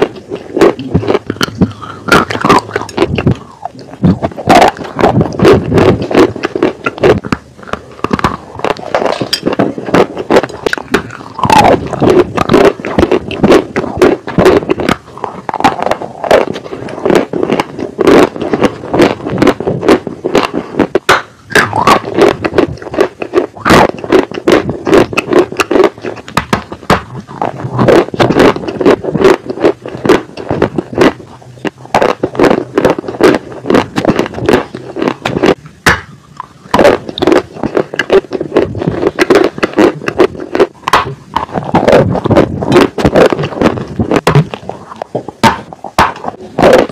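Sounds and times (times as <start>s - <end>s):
chewing dry clay crunches: 0.0s - 46.9s.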